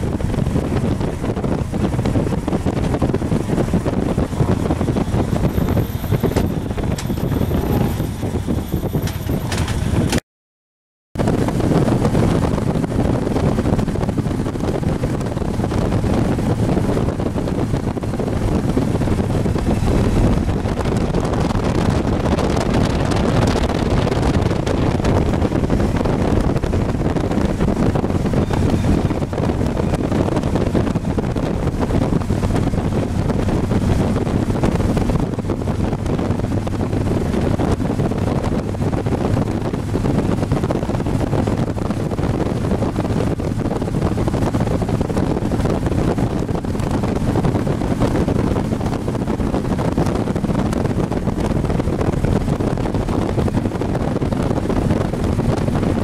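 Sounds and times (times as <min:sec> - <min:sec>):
motorcycle engine and road noise: 0:00.0 - 0:10.2, 0:11.2 - 0:56.0
wind rushing over microphone: 0:00.0 - 0:10.2, 0:11.2 - 0:56.0.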